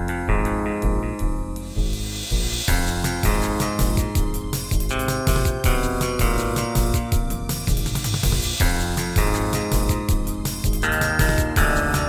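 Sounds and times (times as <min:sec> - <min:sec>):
midi ringtone melody with beat: 0:00.0 - 0:12.0.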